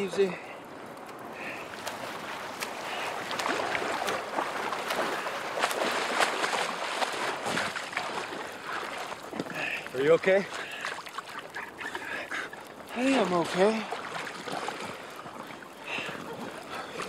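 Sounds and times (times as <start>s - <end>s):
seawater sloshing and splashing: 1.2s - 17.0s.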